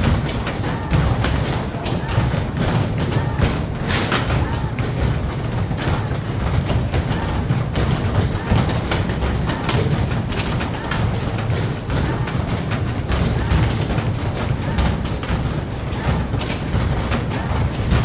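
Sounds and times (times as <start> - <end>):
basketballs thudding on backboard: 0.0 - 18.0.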